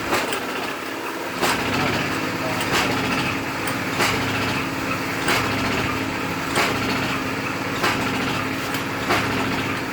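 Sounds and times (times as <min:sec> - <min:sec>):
machine motor hum: 0:00.0 - 0:09.9.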